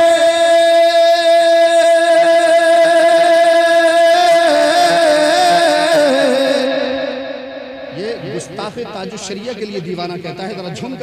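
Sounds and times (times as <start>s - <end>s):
man singing into a microphone: 0.0s - 11.0s.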